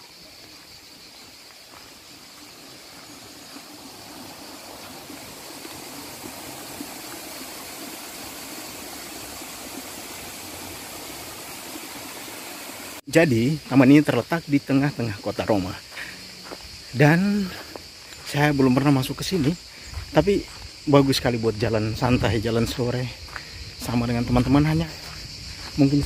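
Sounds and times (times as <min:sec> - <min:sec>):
stream running over rocks: 0:00.0 - 0:26.0.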